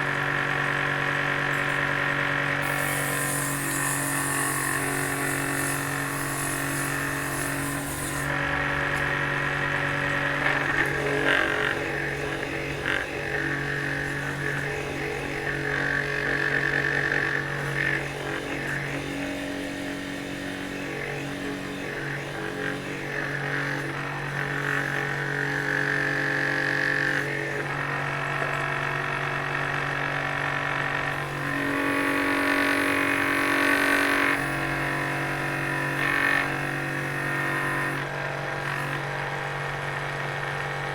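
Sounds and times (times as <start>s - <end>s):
drill press running: 0.0s - 40.9s
tool cutting spinning wood: 0.0s - 40.9s.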